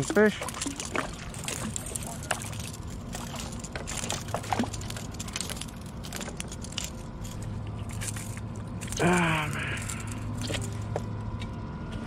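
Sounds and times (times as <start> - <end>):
gear clicks and knocks: 0.0 - 11.6
steady low hum: 0.0 - 12.0.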